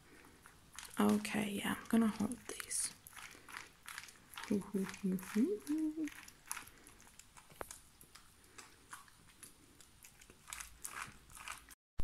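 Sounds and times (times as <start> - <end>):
dog licking and chewing: 0.1 - 11.8.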